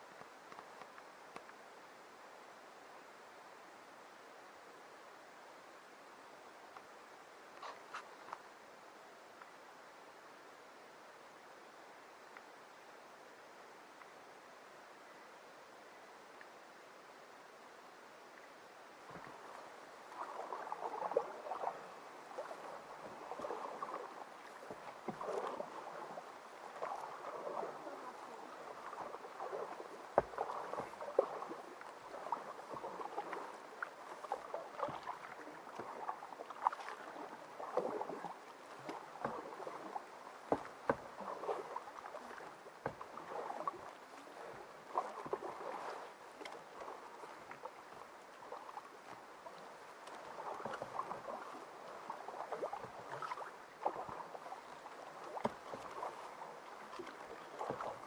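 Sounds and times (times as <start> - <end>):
paddle strokes in water: 0.0 - 15.0, 16.2 - 58.0.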